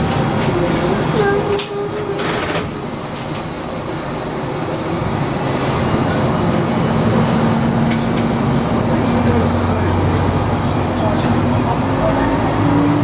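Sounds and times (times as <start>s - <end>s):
railcar engine rumble: 0.0s - 13.0s.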